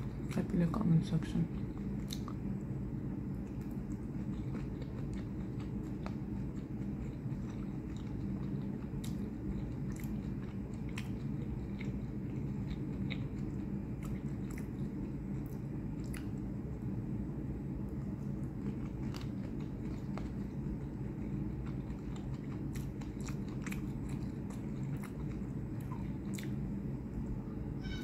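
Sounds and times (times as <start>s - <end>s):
steady low hum: 0.0s - 28.0s
chewing with mouth clicks: 1.5s - 2.7s, 3.3s - 16.5s, 18.0s - 27.4s.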